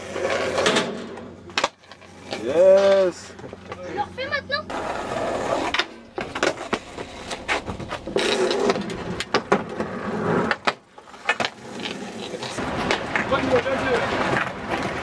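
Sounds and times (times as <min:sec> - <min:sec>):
skateboard wheels rolling on ramp: 0:00.0 - 0:15.0.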